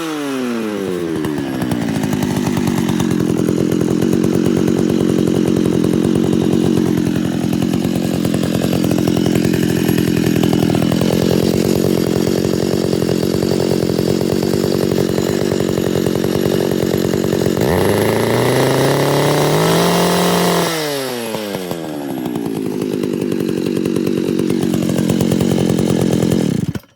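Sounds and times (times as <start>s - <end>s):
chainsaw idling and revving: 0.0s - 26.9s.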